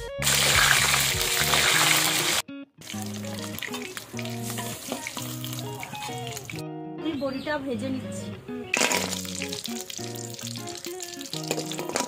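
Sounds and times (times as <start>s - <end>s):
background music: 0.0s - 12.0s
eggs sizzling in hot oil: 0.2s - 6.6s, 8.7s - 12.0s.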